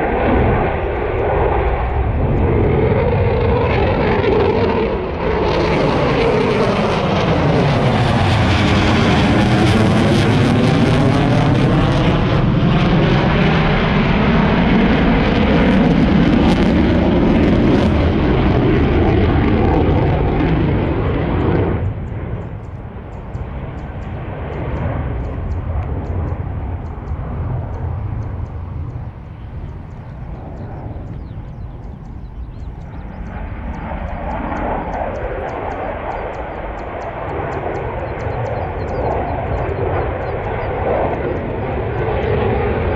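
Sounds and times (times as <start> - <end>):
military aircraft engine overhead: 0.0 - 42.9.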